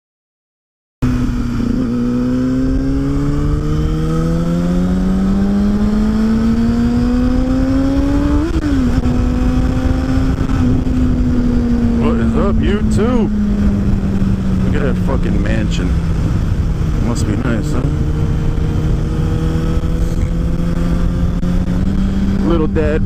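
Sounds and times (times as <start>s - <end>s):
car engine accelerating: 1.0s - 23.0s
road noise: 1.0s - 23.0s.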